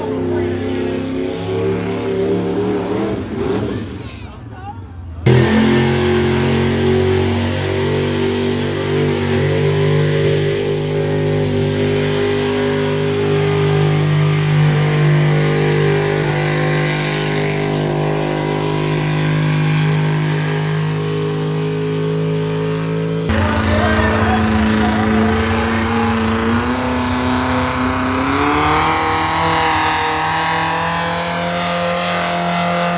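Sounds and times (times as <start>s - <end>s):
truck engine at high revs: 0.0s - 32.9s.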